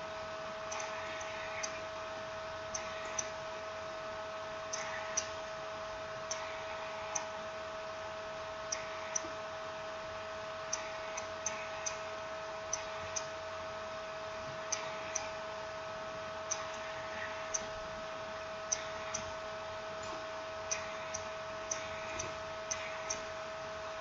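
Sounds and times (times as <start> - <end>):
steady electrical whine: 0.0 - 24.0.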